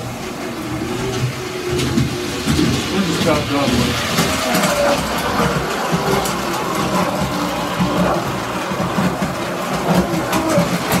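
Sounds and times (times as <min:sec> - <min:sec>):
toy trolley running on metal track: 0:00.0 - 0:11.0.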